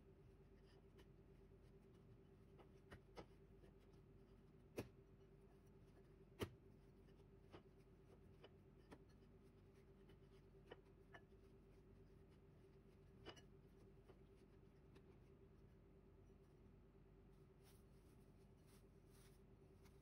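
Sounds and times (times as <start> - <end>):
dough kneaded in a bowl: 0.0 - 20.0
faint steady hum: 0.0 - 20.0.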